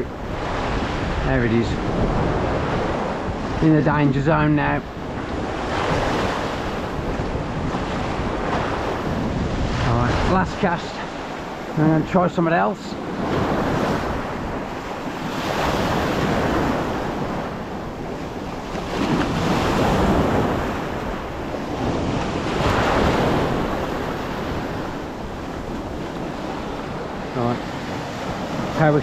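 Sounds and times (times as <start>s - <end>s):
small waves breaking on shore: 0.0s - 29.0s
wind buffeting microphone: 0.0s - 29.0s.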